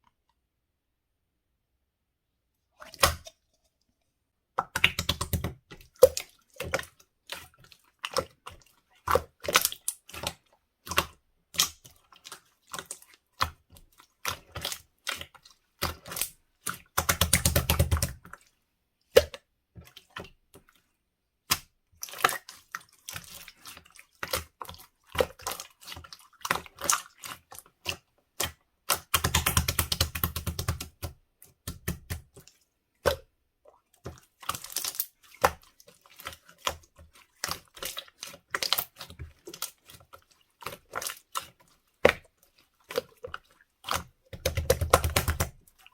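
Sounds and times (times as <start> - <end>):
rapid crackling of slime: 4.8 - 18.5, 21.5 - 33.3, 34.0 - 45.9.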